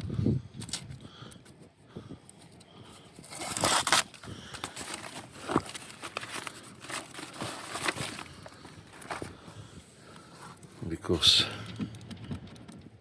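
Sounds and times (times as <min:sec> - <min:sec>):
crackling and crinkling: 0:02.2 - 0:13.0.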